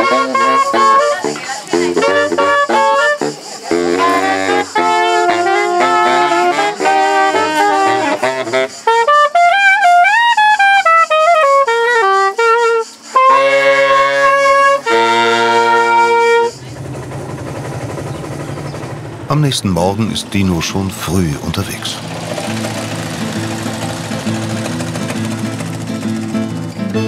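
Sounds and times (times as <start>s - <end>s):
saxophone trio playing in harmony: 0.0s - 27.0s.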